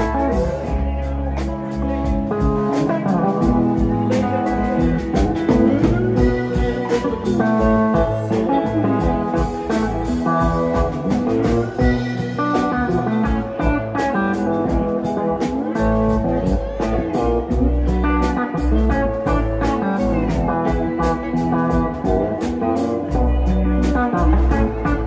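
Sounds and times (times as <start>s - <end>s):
bass guitar: 0.0s - 25.0s
drum kit steady beat: 0.0s - 25.0s
electric guitar: 0.0s - 25.0s
keyboard: 0.0s - 25.0s.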